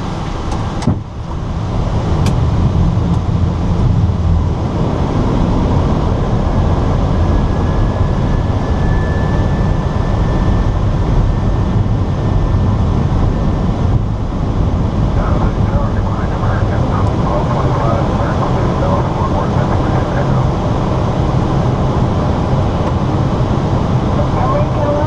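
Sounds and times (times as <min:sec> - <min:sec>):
airflow and engines rushing: 0:00.0 - 0:25.0.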